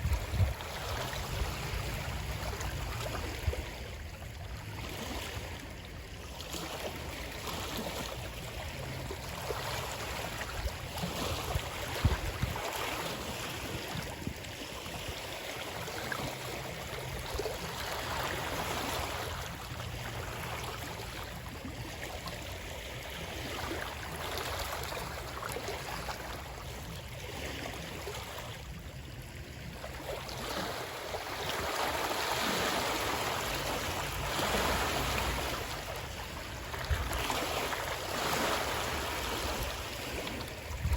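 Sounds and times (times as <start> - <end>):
water rushing and splashing: 0.0 - 40.9.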